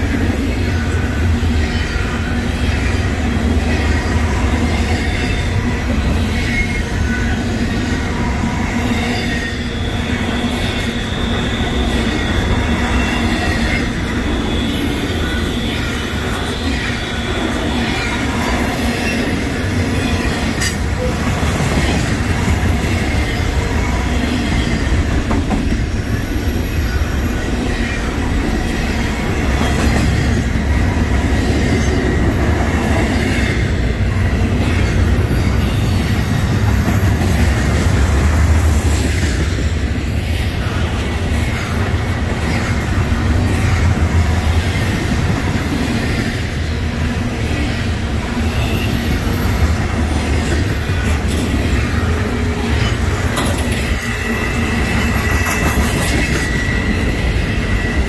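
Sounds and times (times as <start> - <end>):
train wheels rumbling on rails: 0.0 - 58.0
high wheel squeal: 0.4 - 58.0.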